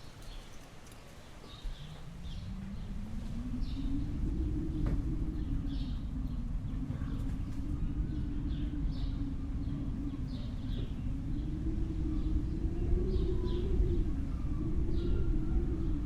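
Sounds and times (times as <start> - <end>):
low outdoor rumble: 0.0 - 16.0
small birds chirping: 0.0 - 16.0.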